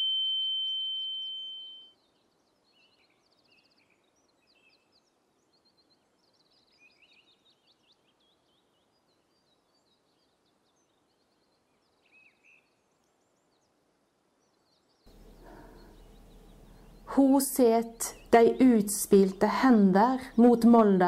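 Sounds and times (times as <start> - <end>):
faint songbirds chirping: 0.0 - 21.0.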